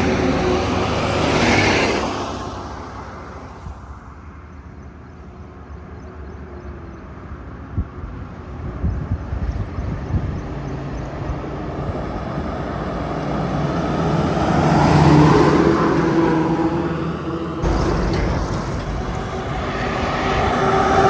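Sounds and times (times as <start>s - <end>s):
truck diesel engine and tyres: 0.0s - 4.5s, 7.3s - 21.0s.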